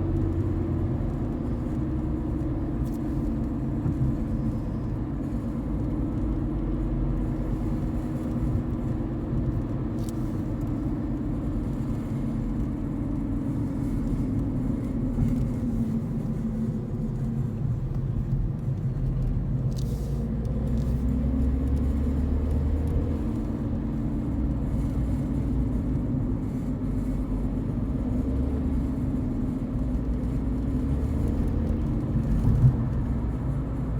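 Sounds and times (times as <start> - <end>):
road rumble: 0.0 - 33.9.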